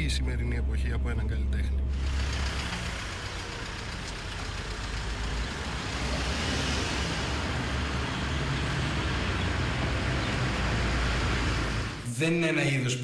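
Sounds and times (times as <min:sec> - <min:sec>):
car engine rumbling: 0:00.0 - 0:12.1.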